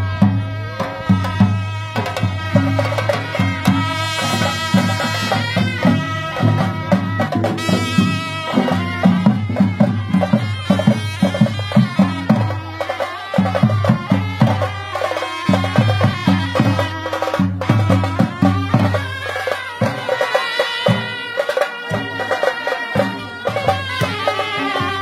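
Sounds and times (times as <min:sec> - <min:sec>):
drum beating fast rhythm: 0:00.0 - 0:25.0.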